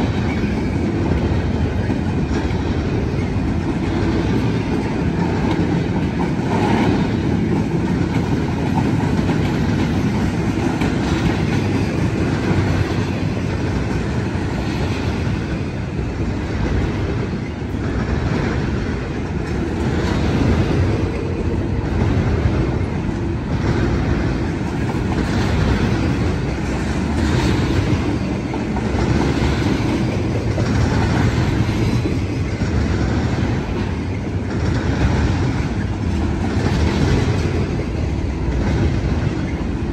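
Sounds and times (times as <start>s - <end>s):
train rumble: 0.0s - 39.9s
train wheels clacking over rail joints: 0.0s - 39.9s.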